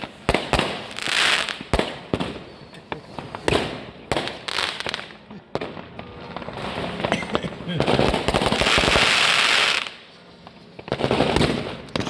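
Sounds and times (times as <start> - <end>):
fireworks hissing: 0.0 - 5.2, 6.1 - 12.0
fireworks and firecrackers banging: 0.0 - 12.0.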